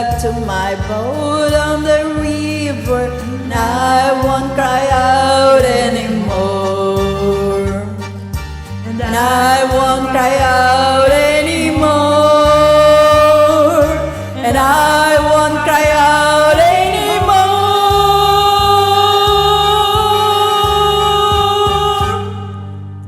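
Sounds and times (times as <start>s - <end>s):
person singing: 0.0s - 8.2s, 8.8s - 22.8s
pulsing bass line accompaniment: 0.0s - 23.0s.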